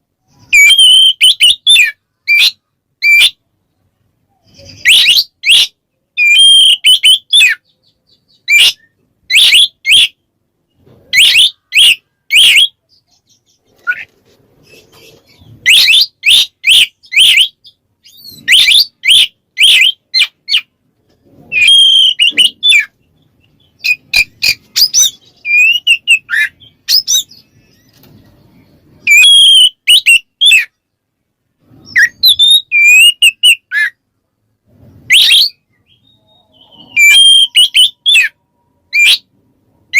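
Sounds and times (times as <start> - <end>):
bird singing whistled notes: 0.3 - 3.4, 4.3 - 10.2, 11.1 - 14.1, 14.7 - 20.7, 21.5 - 30.8, 31.8 - 34.0, 35.1 - 39.3.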